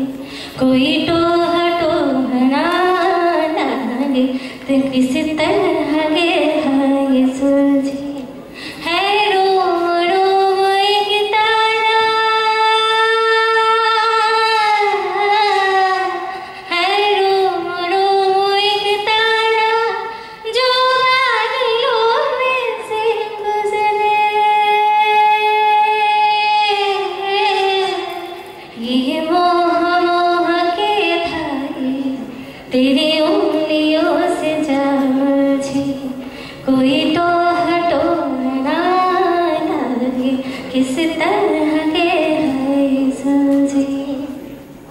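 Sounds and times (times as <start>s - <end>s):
woman singing into microphone: 0.0s - 44.5s.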